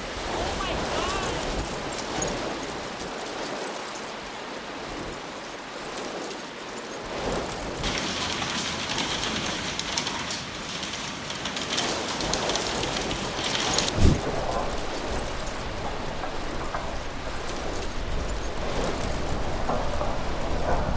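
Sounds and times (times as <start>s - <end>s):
hail pelting down: 0.0s - 20.9s.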